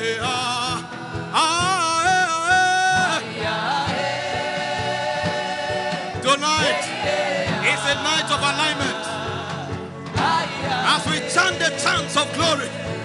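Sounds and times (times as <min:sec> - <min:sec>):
sustained instrumental backing: 0:00.0 - 0:13.0.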